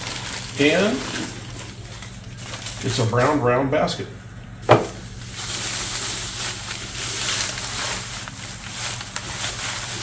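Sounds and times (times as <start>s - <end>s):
plastic bag rustling: 0.0s - 3.6s, 4.6s - 10.0s.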